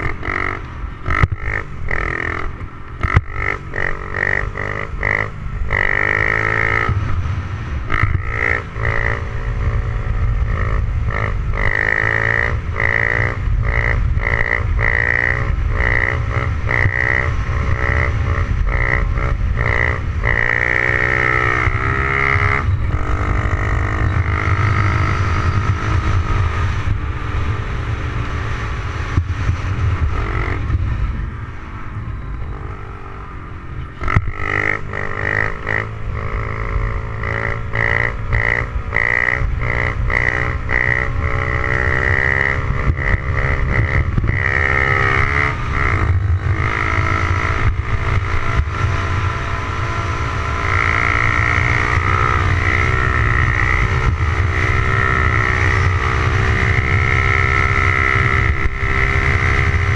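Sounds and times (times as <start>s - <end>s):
motorbike engine revving: 0.0s - 59.9s
wind rumble on microphone: 0.0s - 59.9s.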